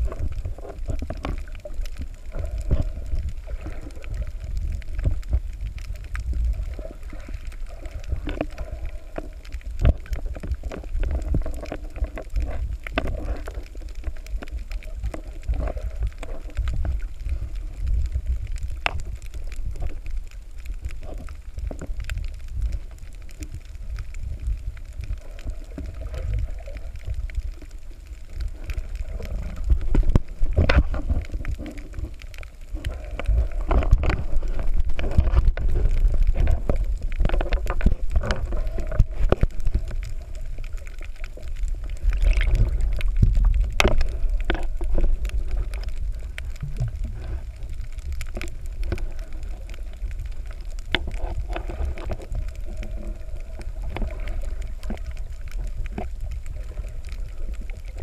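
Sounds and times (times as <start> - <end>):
low underwater rumble of water: 0.0 - 58.0
underwater clicks and crackles: 0.0 - 58.0.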